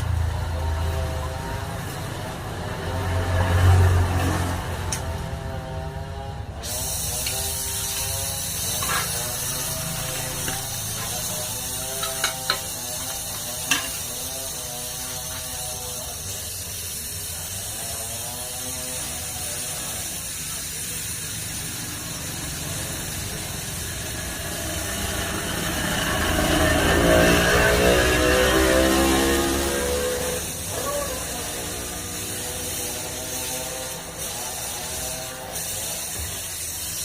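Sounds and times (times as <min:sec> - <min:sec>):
gas hissing: 0:04.0 - 0:37.0.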